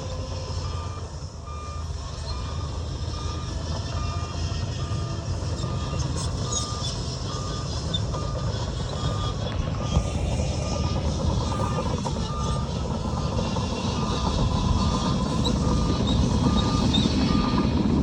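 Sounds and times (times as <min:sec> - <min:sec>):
diesel engine running: 0:00.0 - 0:18.0
reverse alarm beeping: 0:00.6 - 0:17.8.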